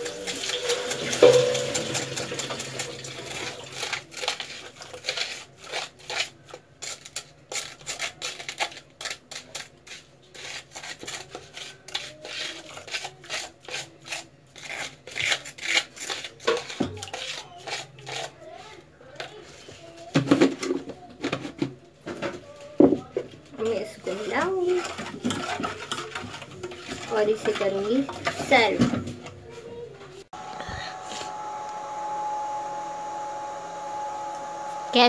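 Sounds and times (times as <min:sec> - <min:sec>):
plastic spoon scraping sugar: 0:00.0 - 0:22.4, 0:23.1 - 0:29.0.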